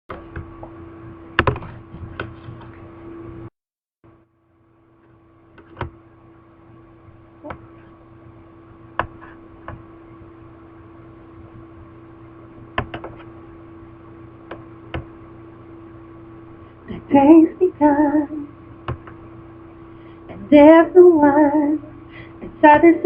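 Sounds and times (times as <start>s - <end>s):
electrical hum: 0.1s - 23.0s.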